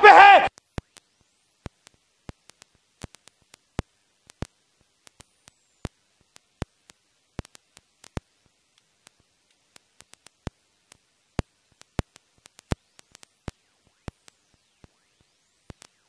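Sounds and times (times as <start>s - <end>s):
sharp clicks and pops: 0.4s - 16.0s.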